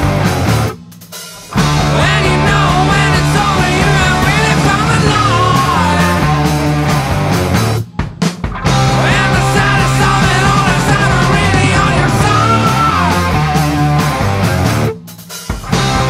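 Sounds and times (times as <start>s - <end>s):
stoner rock band playing: 0.0s - 16.0s.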